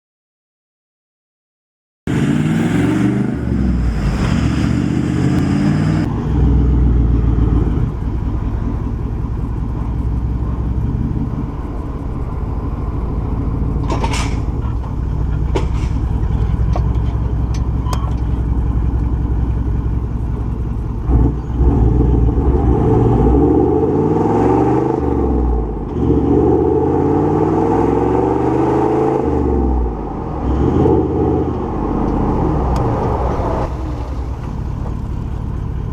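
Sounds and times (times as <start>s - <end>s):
diesel engine revving and idling: 2.1s - 35.9s.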